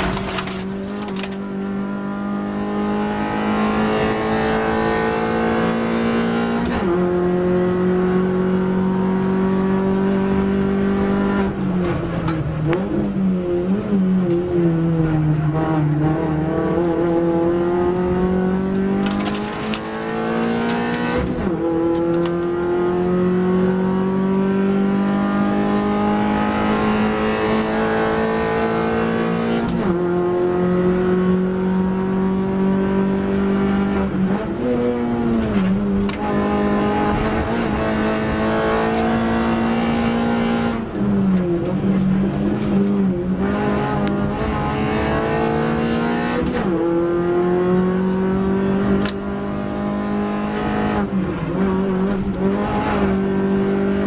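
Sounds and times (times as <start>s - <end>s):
race car engine revving through gears: 0.0s - 54.0s.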